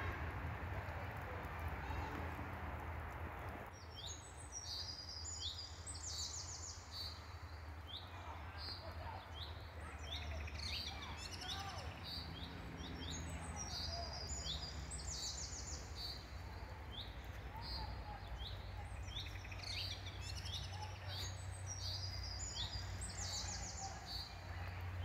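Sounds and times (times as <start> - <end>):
small birds chirping: 3.3 - 25.0.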